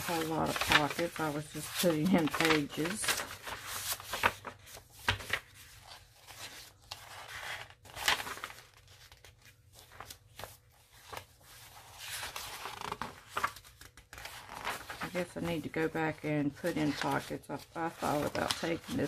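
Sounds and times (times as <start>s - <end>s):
paper pages rustling: 0.0s - 19.0s.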